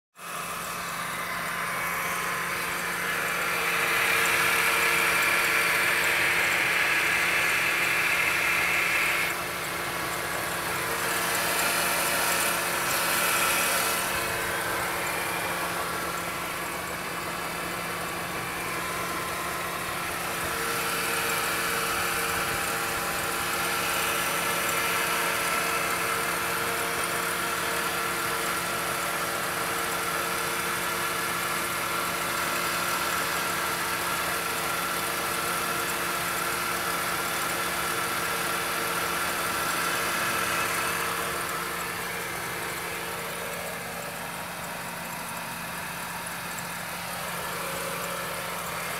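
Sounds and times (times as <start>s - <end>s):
car engine idling: 0.2s - 48.9s
high whine over engine: 0.2s - 48.9s.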